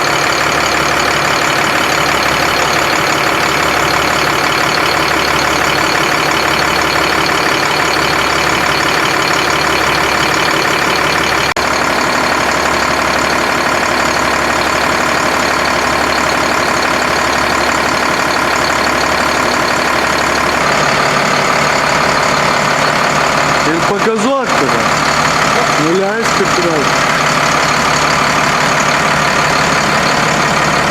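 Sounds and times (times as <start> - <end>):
truck diesel engine running: 0.0 - 30.9.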